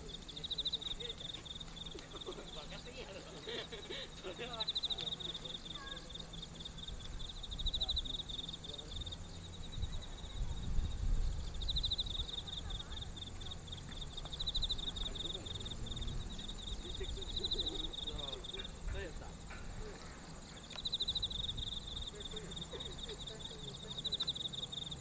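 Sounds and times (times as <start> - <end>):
crickets chirping: 0.0 - 25.0
distant train rumble: 0.0 - 25.0.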